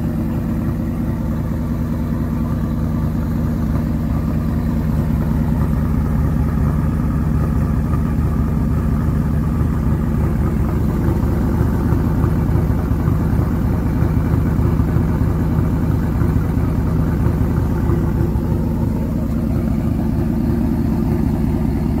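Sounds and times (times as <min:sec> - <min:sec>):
vee eight engine idling: 0:00.0 - 0:22.0.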